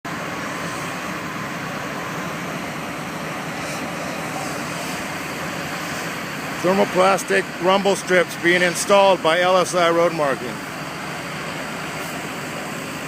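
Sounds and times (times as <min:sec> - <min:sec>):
machinery rushing roar: 0:00.0 - 0:13.0
faint low engine hum: 0:00.1 - 0:13.0.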